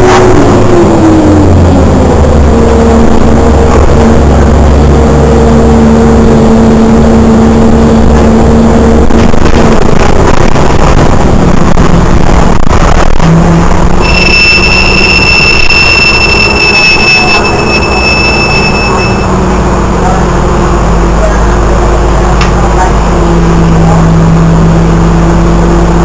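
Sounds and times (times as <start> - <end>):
brakes squealing: 0.0 - 26.0
bus engine humming: 0.0 - 26.0.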